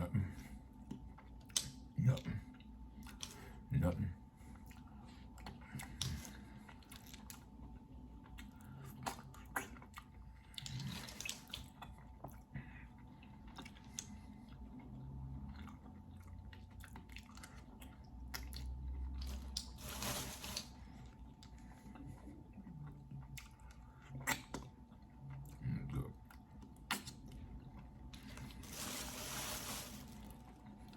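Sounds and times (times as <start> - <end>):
chewing with wet mouth sounds: 0.2 - 19.8, 20.8 - 28.6, 30.3 - 30.9.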